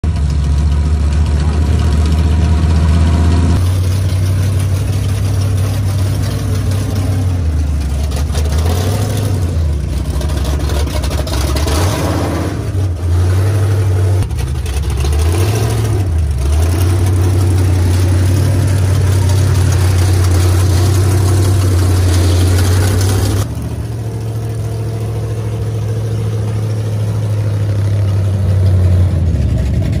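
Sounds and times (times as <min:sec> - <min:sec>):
engine running loud: 0:00.0 - 0:30.0.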